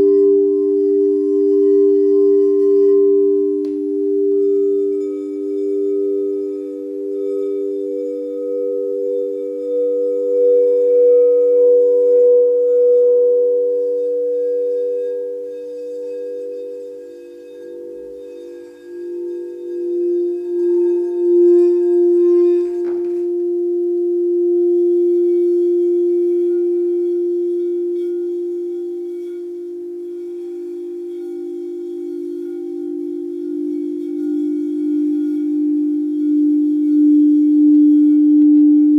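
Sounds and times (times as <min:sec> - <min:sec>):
singing bowl tones: 0:00.0 - 0:38.9.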